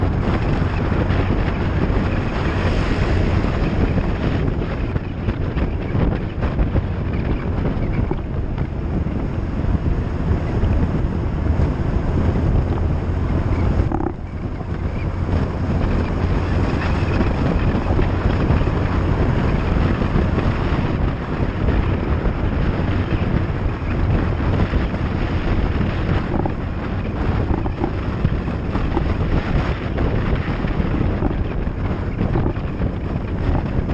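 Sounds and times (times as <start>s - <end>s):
road and engine noise: 0.0s - 33.9s
wind rushing: 0.0s - 33.9s.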